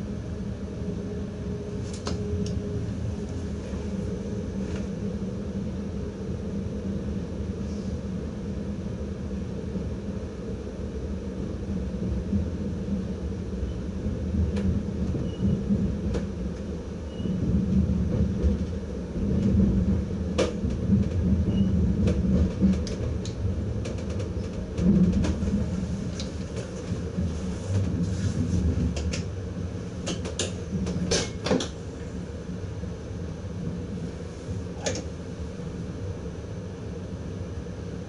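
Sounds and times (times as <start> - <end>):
train running rumble: 0.0 - 38.0.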